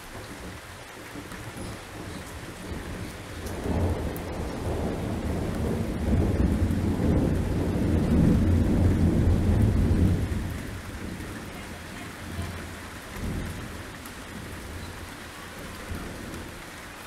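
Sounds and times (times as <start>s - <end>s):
thunder rumbling: 0.0s - 17.0s
torrential rain hissing: 0.0s - 17.0s.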